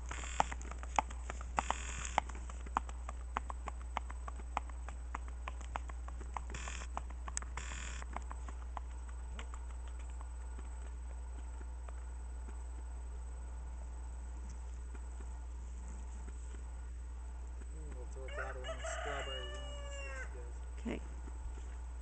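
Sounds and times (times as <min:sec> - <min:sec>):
horse hooves on pavement: 0:00.0 - 0:20.2.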